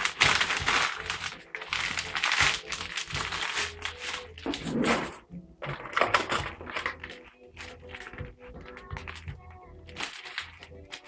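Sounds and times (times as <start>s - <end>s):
plastic bag crinkling: 0.0s - 4.8s, 5.6s - 11.0s.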